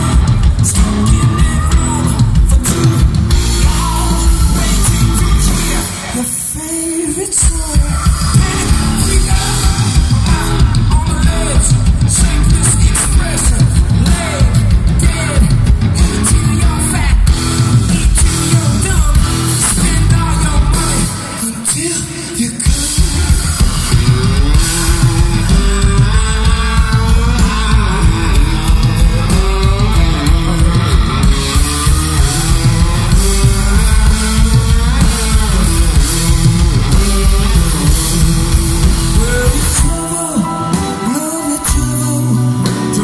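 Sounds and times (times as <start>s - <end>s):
drum kit: 0.0s - 43.0s
electric guitar: 0.0s - 43.0s
man singing: 0.0s - 43.0s.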